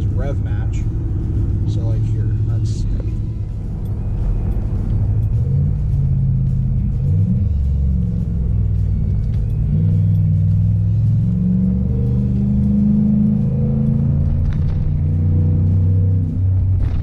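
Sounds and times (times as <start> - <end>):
deep exhaust rumble: 0.0 - 17.0.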